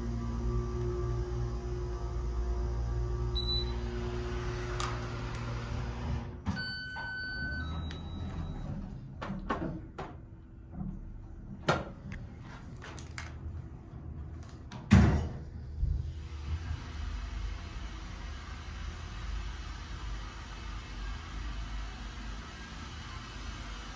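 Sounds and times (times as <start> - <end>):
elevator machinery hum: 0.0 - 23.9.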